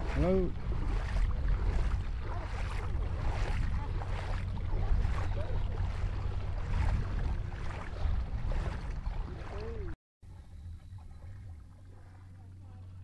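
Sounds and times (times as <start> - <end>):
splashing steps in shallow water: 0.0 - 10.0, 11.0 - 13.0
wind rumble on microphone: 0.0 - 13.0.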